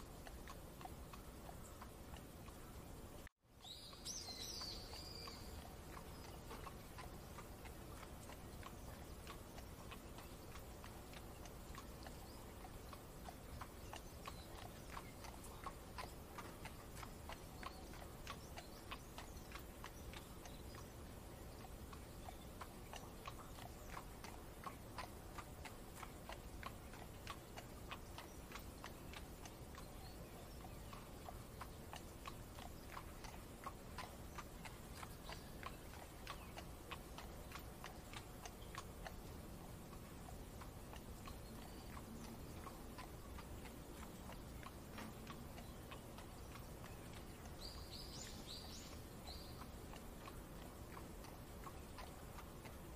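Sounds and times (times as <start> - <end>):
faint rain: 0.0 - 52.9
horse hooves clip-clopping: 0.0 - 52.9.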